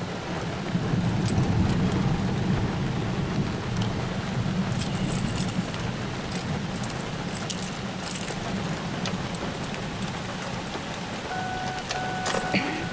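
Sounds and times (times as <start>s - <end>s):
raindrops ticking on car roof: 0.0s - 12.9s
steady low rumble: 0.3s - 12.9s.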